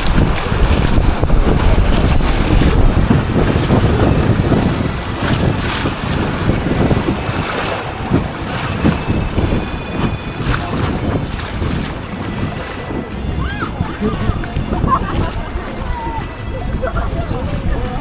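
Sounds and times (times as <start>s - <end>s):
river water rushing: 0.0s - 16.5s
wind buffeting microphone: 0.0s - 18.0s.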